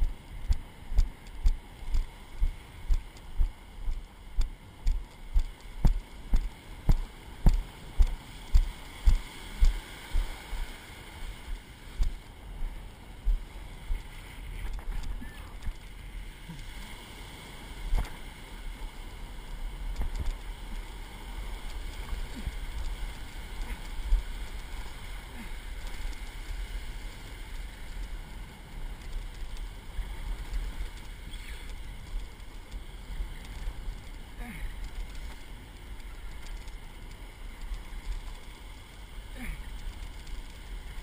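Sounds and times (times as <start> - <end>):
ocean surf breaking: 0.0 - 41.0
wind rumble on microphone: 0.0 - 41.0.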